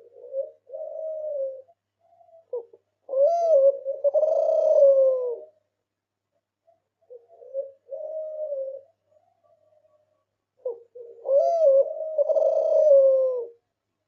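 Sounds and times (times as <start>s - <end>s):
dove cooing: 0.0s - 5.6s, 6.6s - 13.7s.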